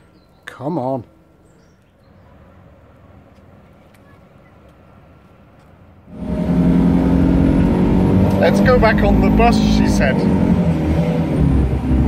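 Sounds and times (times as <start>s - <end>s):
loud bus engine and cabin noise: 2.1s - 12.0s.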